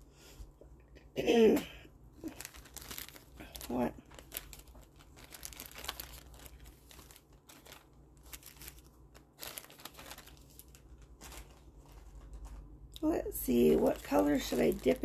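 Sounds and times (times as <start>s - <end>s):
plastic bag crinkling: 2.2s - 15.0s.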